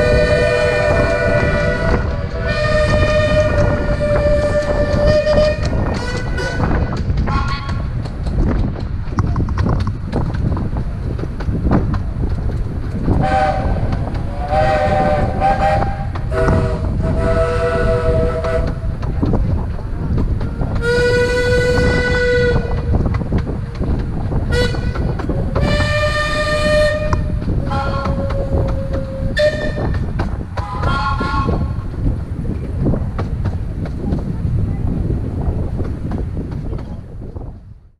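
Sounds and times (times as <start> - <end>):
train rumble and clatter: 0.0 - 37.9.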